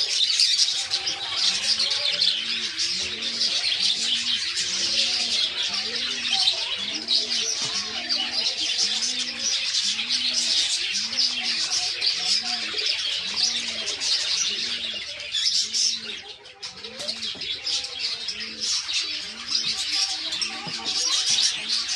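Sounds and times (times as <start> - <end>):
budgerigars chattering: 0.0 - 21.9.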